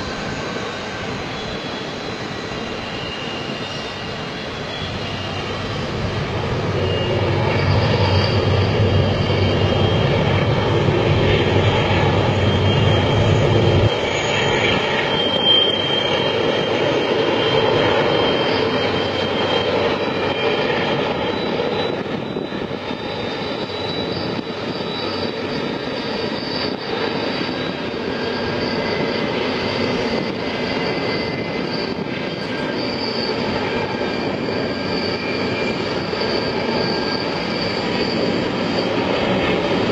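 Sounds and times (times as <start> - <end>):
freight train rumbling: 0.0 - 39.9
wheels squealing on track: 0.0 - 39.9.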